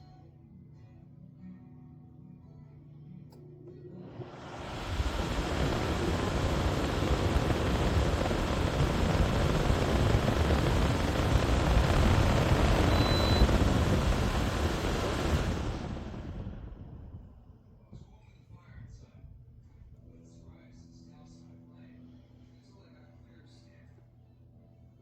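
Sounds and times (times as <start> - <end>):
air conditioner blowing air: 3.4 - 25.0.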